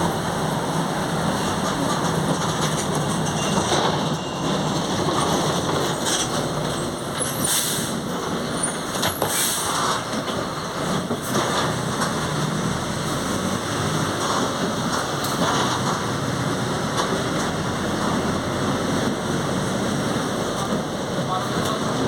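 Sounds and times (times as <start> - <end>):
bus drive-line and road drone: 0.0 - 22.0.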